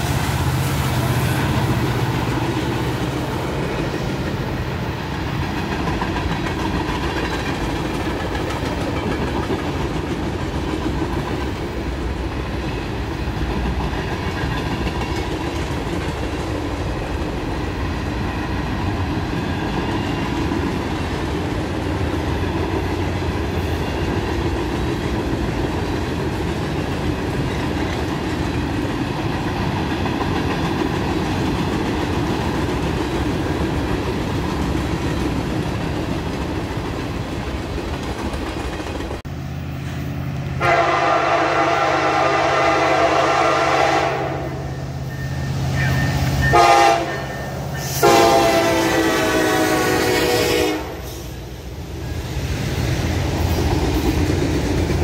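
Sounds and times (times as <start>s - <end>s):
steel wheels running on rails: 0.0s - 40.8s, 41.6s - 55.0s.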